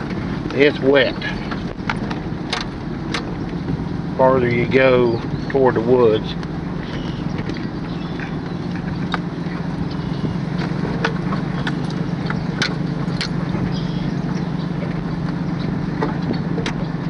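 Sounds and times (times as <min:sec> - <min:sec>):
farm vehicle engine running: 0:00.0 - 0:17.0
sharp clicks and rattles: 0:00.0 - 0:17.0.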